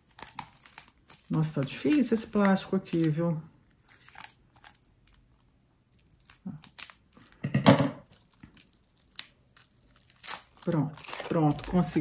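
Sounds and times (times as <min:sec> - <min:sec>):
plastic wrap crinkling and tearing: 0:00.0 - 0:07.4, 0:08.0 - 0:12.0.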